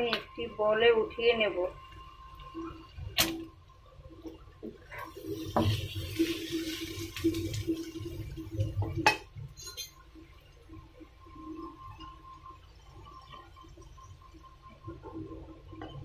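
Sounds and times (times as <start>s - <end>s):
prawns sizzling in oil: 0.0s - 16.0s.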